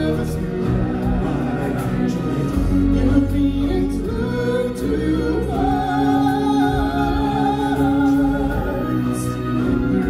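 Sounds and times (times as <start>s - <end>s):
sustained musical accompaniment: 0.0s - 10.0s.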